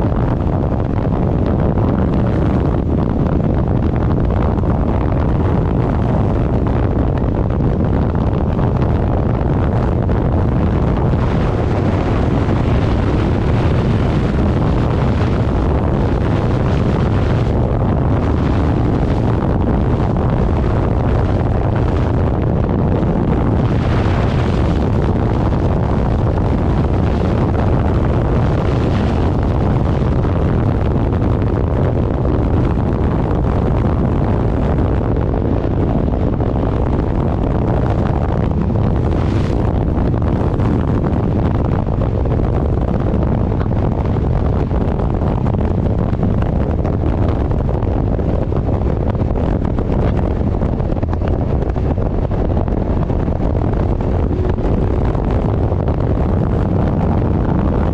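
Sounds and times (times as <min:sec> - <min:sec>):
engine and road noise: 0:00.0 - 0:57.9
wind rushing over microphone: 0:00.0 - 0:57.9.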